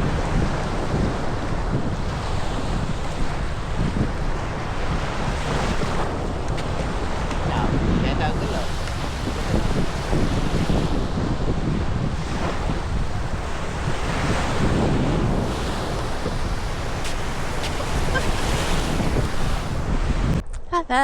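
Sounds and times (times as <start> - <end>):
surf breaking on beach: 0.0 - 20.4
wind buffeting microphone: 0.0 - 21.0.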